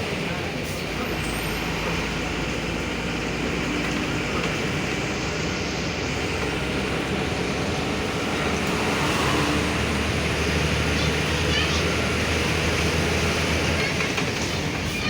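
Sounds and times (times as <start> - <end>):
low engine hum: 0.0 - 15.0
vehicle road noise: 0.0 - 15.0.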